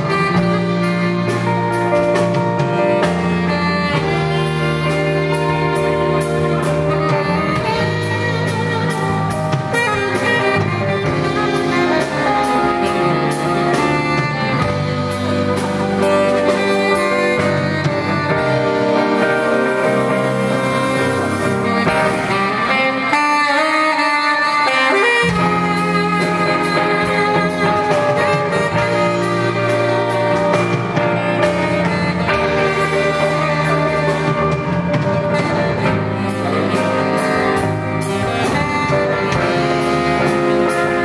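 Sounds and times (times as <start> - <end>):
drums keeping steady beat: 0.0 - 41.0
live band: 0.0 - 41.0
tenor saxophone solo: 0.0 - 41.0.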